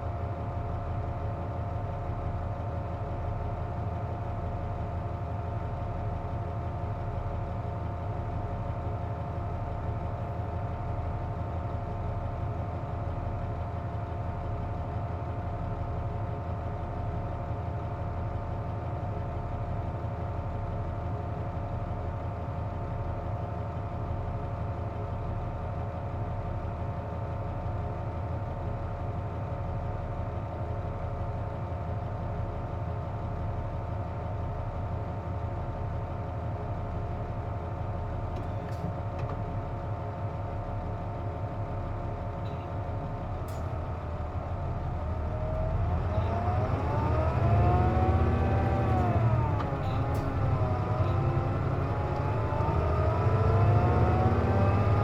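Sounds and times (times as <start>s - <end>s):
bus engine idling and revving: 0.0s - 55.0s.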